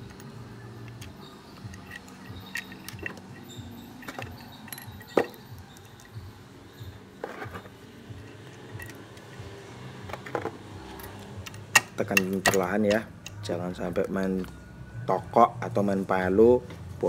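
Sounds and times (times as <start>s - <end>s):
metal parts and tools clinking: 0.0s - 14.5s.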